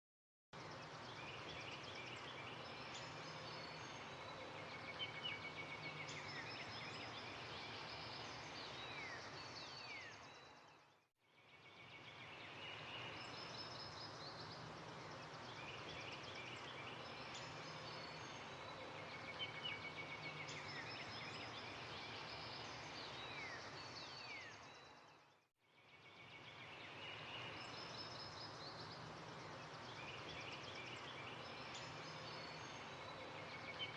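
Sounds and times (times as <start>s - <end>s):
outdoor background hiss: 0.6s - 10.7s, 11.4s - 25.1s, 25.8s - 33.9s.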